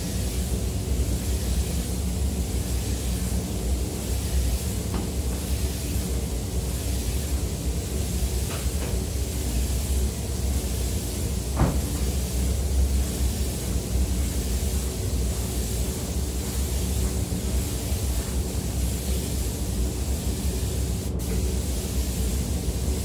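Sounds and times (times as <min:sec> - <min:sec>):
spray gun hissing: 0:00.0 - 0:23.0.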